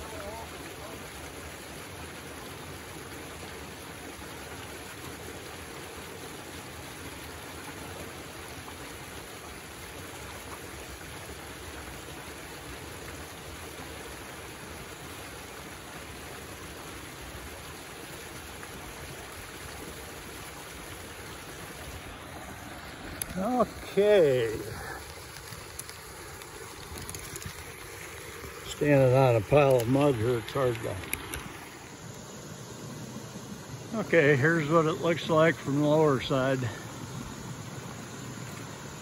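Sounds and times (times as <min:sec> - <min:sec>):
water running and splashing: 0:00.0 - 0:39.0.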